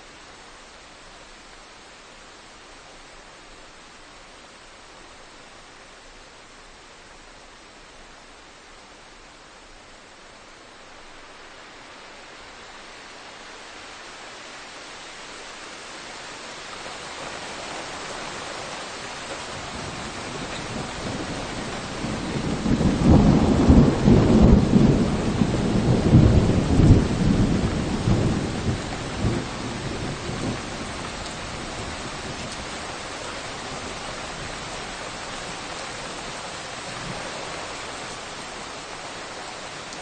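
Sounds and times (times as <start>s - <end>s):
rain hissing in a forest: 0.0s - 40.0s.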